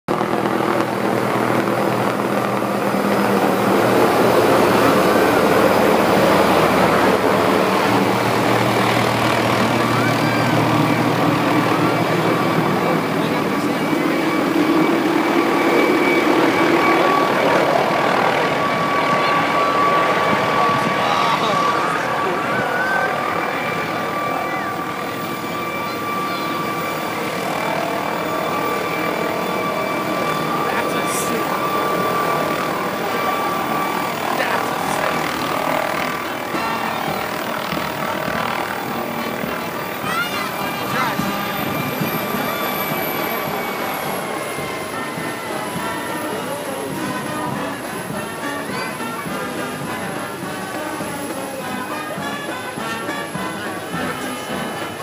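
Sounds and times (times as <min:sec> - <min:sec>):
helicopter flying overhead: 0:00.0 - 0:55.0
high even whine: 0:00.2 - 0:52.0.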